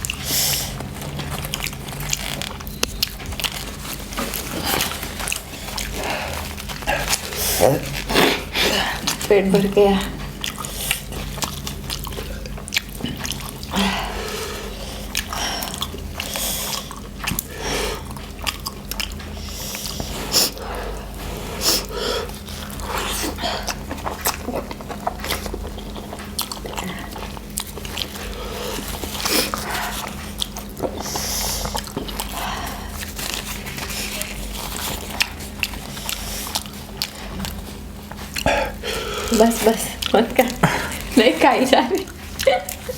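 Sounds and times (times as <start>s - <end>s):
mouth chewing clicks and smacks: 0.0s - 42.9s
steady low hum: 0.0s - 42.9s.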